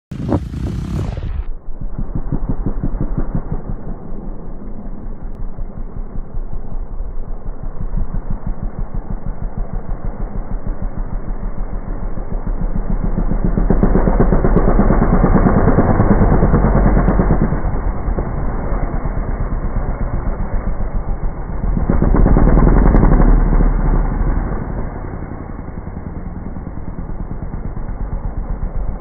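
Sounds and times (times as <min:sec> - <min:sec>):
dirt bike engine running: 0:00.1 - 0:29.0.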